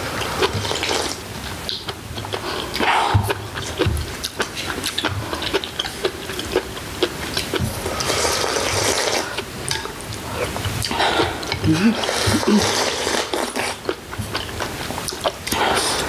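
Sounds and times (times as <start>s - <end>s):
slurping broth and noodles: 0.0s - 3.8s, 4.4s - 16.0s
chewing: 0.2s - 16.0s.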